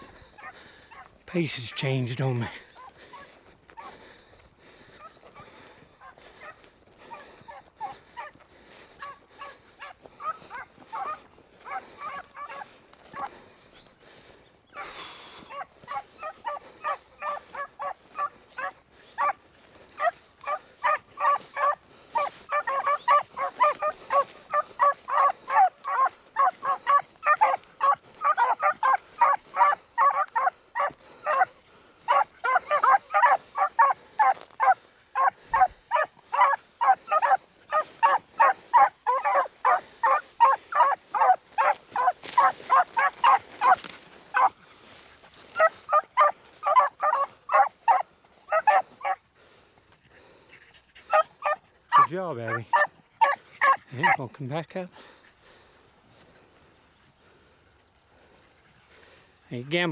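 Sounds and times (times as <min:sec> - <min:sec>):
beagles baying: 0:00.0 - 0:54.4.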